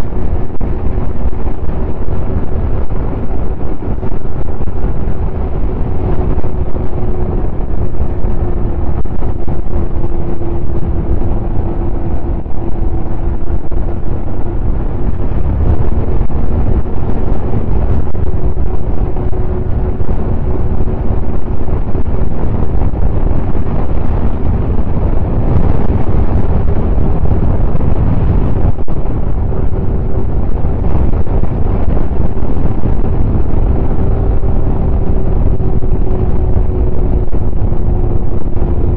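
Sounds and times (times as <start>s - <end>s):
snowmobile engine cruising: 0.0s - 38.9s
wind buffeting microphone: 0.0s - 38.9s.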